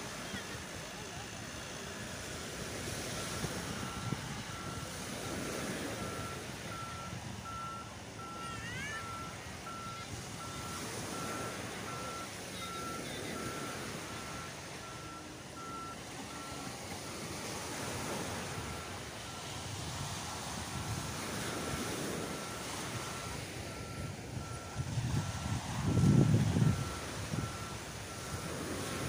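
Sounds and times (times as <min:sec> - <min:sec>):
surf: 0:00.0 - 0:29.0
wind: 0:00.0 - 0:29.0
reversing alarm beeping: 0:02.8 - 0:29.0.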